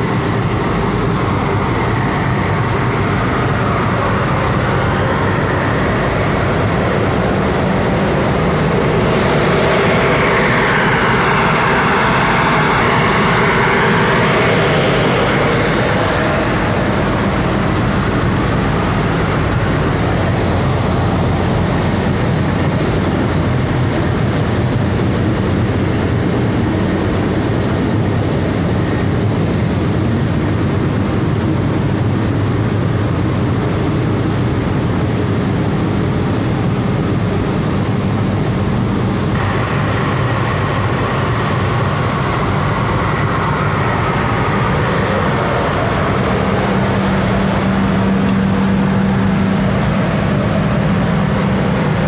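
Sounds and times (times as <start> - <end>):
industrial fans rushing air: 0.0 - 52.0
low motor hum: 0.0 - 52.0.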